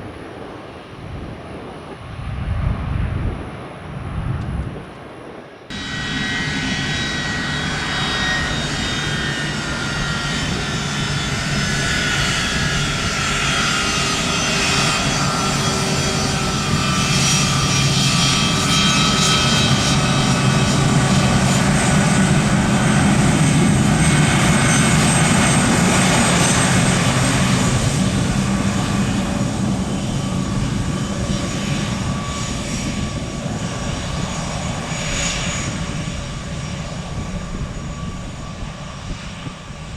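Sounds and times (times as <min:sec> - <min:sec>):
jet airliner engines passing: 0:00.0 - 0:39.9.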